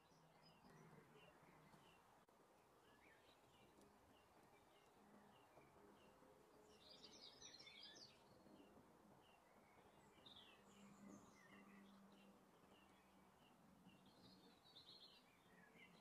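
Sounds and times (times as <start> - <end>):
birds twittering: 0.0 - 16.0
faint bird chirps: 0.0 - 16.0.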